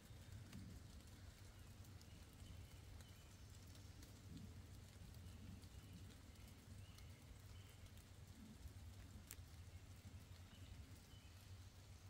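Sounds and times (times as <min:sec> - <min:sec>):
low steady hum: 0:00.0 - 0:12.0
rain drips: 0:00.0 - 0:12.0.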